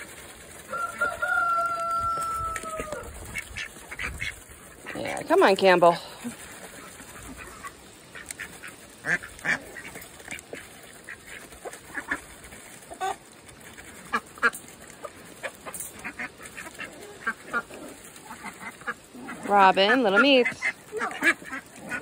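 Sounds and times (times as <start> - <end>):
ducks quacking: 0.8 - 22.0.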